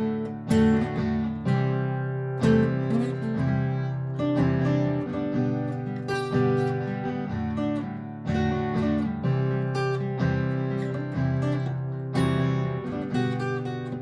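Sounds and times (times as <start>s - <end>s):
acoustic guitar strummed and plucked: 0.0s - 14.0s.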